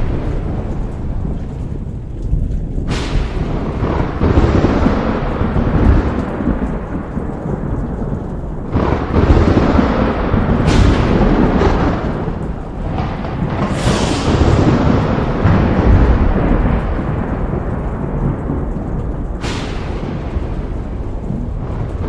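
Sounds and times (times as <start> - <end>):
steady rain: 0.0 - 22.0
thunder cracking and rumbling: 0.0 - 22.0.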